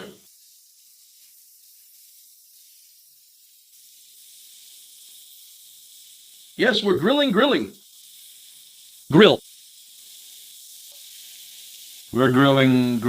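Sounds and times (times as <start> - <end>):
vegetables sizzling on grill: 0.0 - 13.0.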